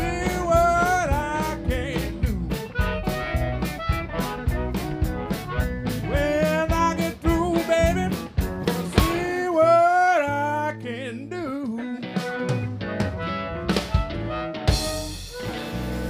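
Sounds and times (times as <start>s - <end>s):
blues-rock band playing: 0.0s - 16.0s
wavering electric guitar lead: 0.0s - 16.0s.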